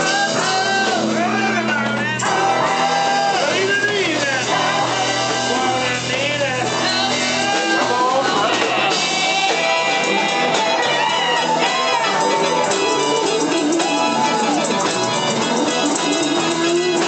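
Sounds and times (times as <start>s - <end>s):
drums: 0.0s - 17.0s
electric guitars: 0.0s - 17.0s.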